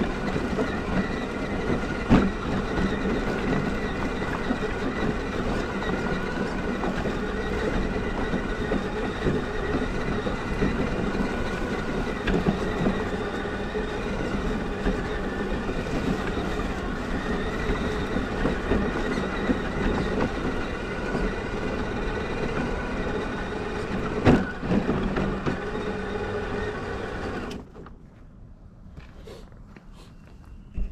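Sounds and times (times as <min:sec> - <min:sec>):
electric motor whining: 0:00.0 - 0:27.6.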